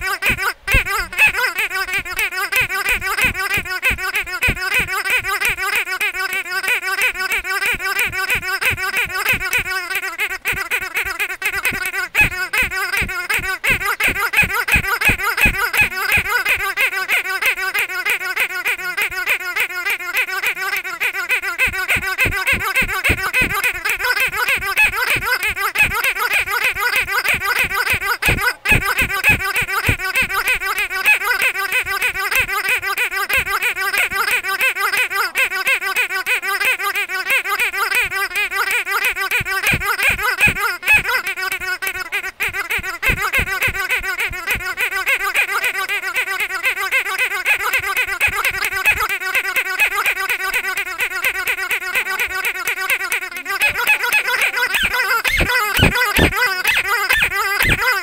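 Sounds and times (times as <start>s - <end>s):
squeaky dog toy squeaking: 0.0s - 58.0s.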